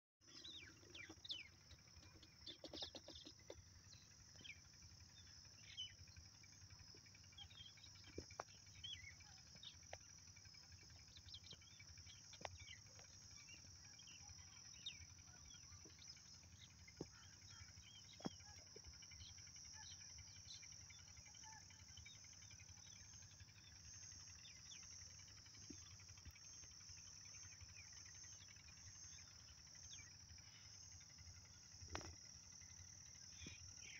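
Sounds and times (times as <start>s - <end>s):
bird chirps: 0.2s - 33.9s
high-pitched insect trill: 0.3s - 33.9s.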